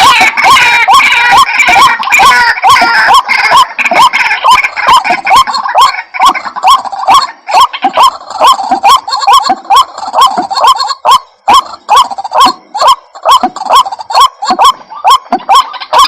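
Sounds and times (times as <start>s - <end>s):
waterhen calling harsh notes: 0.0s - 16.0s.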